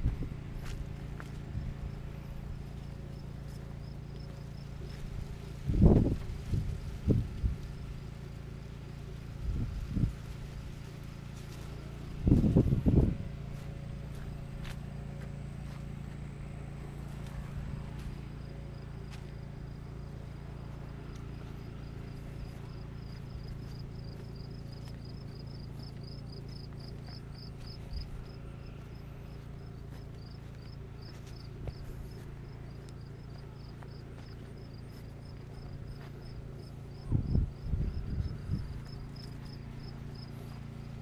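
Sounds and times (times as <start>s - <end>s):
low outdoor background rumble: 0.0s - 41.0s
cricket chirping: 0.6s - 41.0s.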